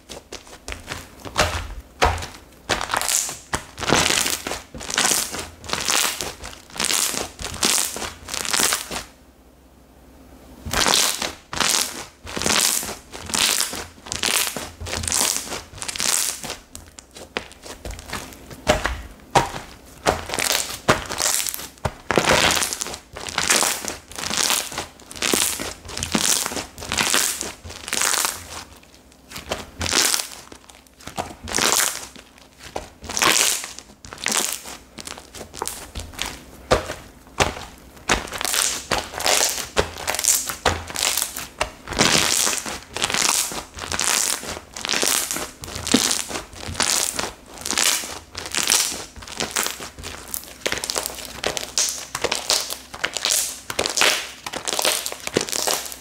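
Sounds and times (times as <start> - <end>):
slime squished by hand: 0.0 - 9.1, 10.6 - 56.0.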